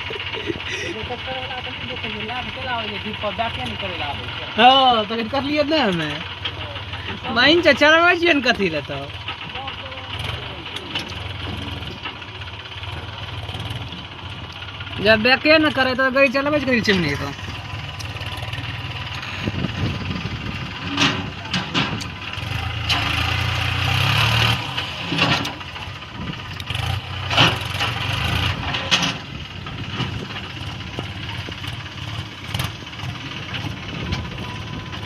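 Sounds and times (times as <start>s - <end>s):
tractor diesel engine running: 0.0s - 35.0s
sharp knocks and rattles: 5.6s - 35.0s.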